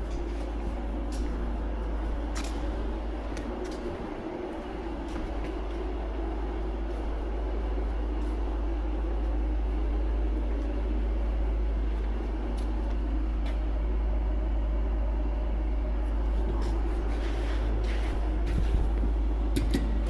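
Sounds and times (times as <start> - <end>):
deep droning hum: 0.0 - 20.0.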